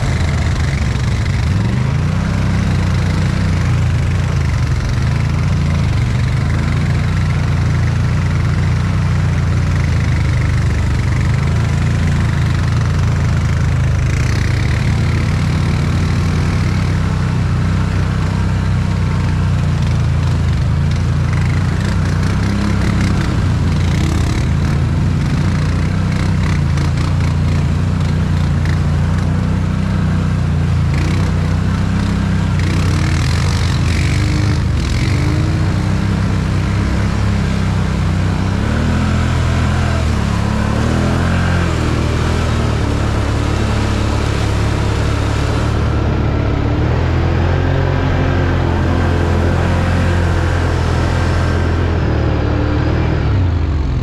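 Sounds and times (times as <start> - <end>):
engine running at low revs: 0.0 - 54.0.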